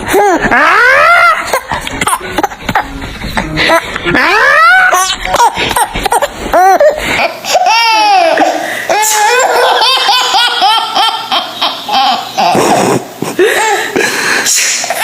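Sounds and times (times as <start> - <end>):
baby laughing: 0.0 - 14.0.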